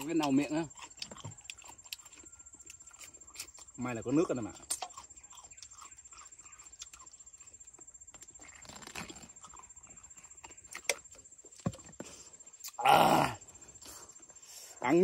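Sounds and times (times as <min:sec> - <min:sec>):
quiet chewing: 0:00.0 - 0:12.8.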